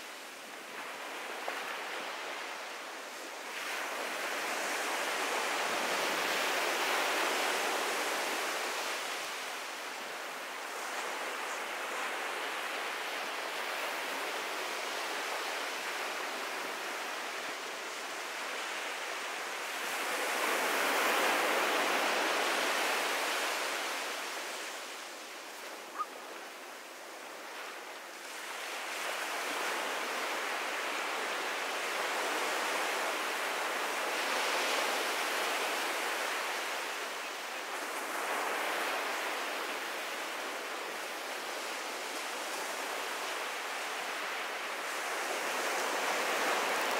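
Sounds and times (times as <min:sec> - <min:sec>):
ocean surf on beach: 0:00.0 - 0:46.9.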